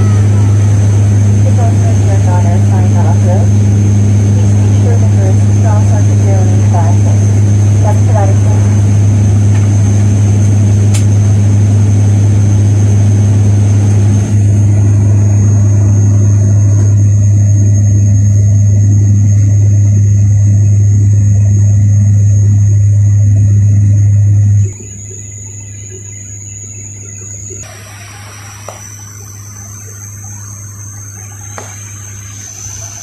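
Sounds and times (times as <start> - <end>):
background hum: 0.0 - 33.0
vehicle engine drone: 0.0 - 33.0.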